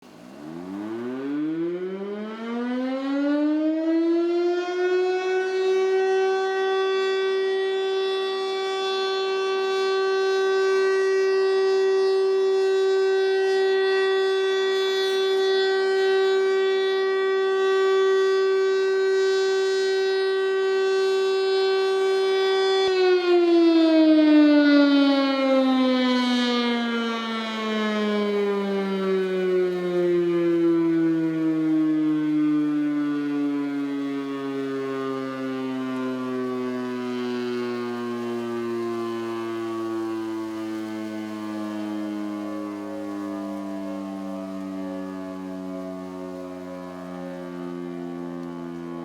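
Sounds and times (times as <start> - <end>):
warning siren winding up: 0.4 - 49.0.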